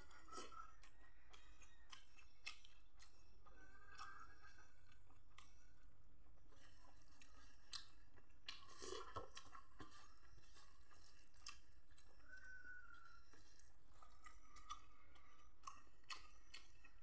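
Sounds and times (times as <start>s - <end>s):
fingers squishing food on metal plate: 0.0s - 5.9s, 6.5s - 17.0s
soft chewing: 0.0s - 17.0s.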